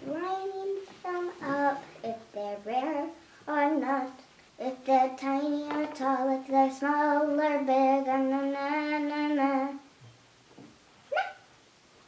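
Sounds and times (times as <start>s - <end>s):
girl singing wordless tune: 0.0s - 10.0s.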